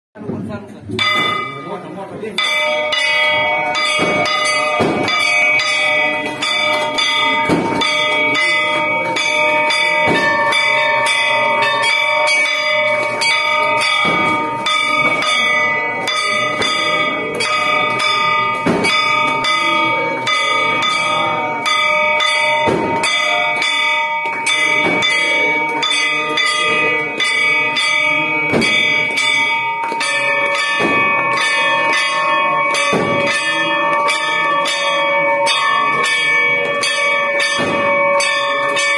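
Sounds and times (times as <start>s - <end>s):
bells ringing: 1.0s - 38.9s.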